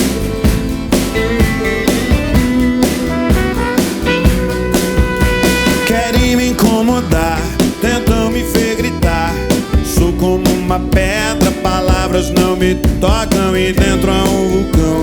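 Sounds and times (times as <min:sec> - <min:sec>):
drum kit: 0:00.0 - 0:15.0
live rock band playing: 0:00.0 - 0:15.0.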